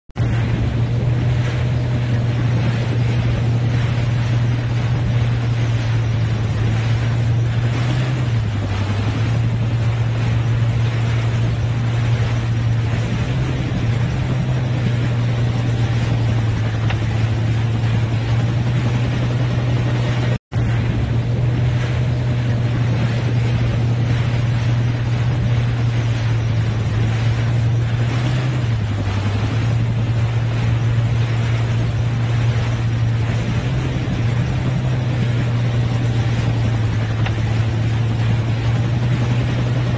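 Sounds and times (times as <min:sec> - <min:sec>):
low hum: 0:00.1 - 0:39.9
helicopter rotor and turbine noise: 0:00.2 - 0:39.9.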